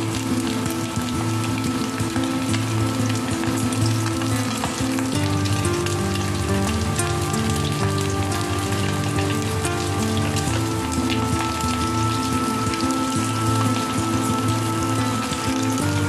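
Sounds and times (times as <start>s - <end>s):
background music of held notes: 0.0s - 16.0s
chicken deep-frying in oil: 0.0s - 16.0s.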